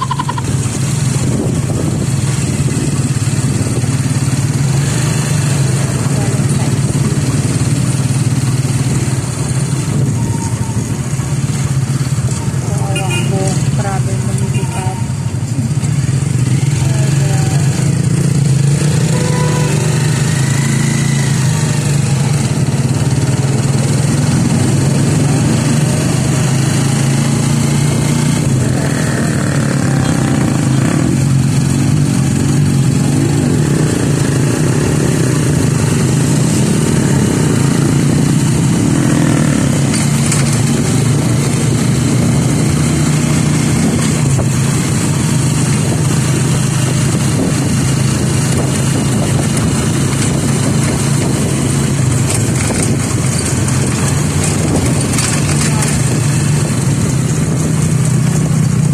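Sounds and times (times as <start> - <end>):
road noise: 0.0 - 58.9
vehicle engine drone: 0.0 - 58.9.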